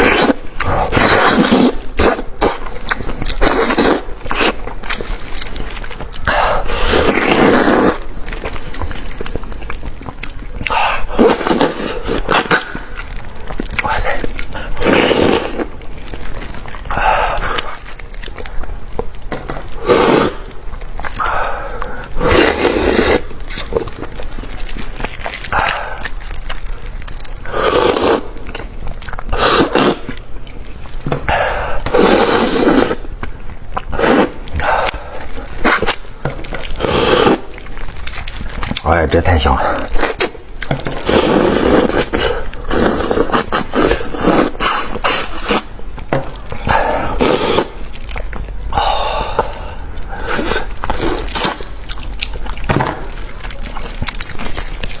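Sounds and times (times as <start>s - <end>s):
person chewing and sucking: 0.0s - 55.0s.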